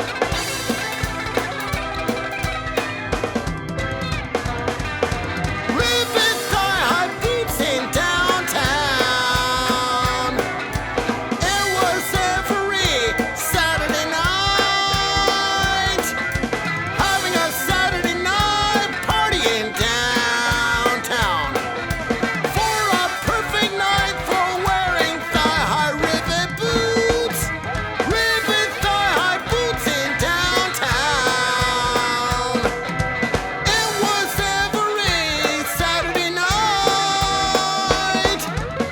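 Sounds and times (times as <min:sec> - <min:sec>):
rock song with drums: 0:00.0 - 0:38.9
person singing: 0:05.4 - 0:38.9.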